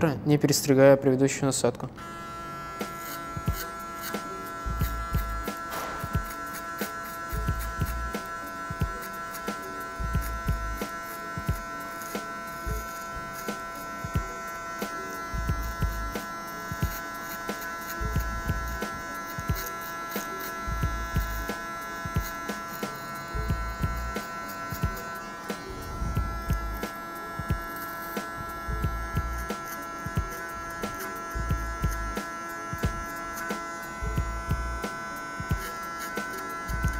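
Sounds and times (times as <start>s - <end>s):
electric hair clipper buzzing: 1.9s - 36.9s.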